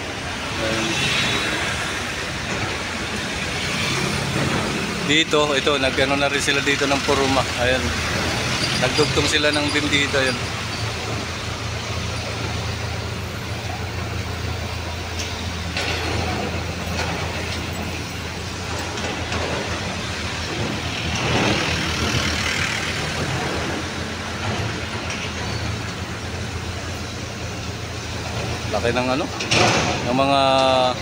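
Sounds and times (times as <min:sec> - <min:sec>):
heavy vehicle engine running: 0:00.0 - 0:31.0
street traffic: 0:00.0 - 0:31.0.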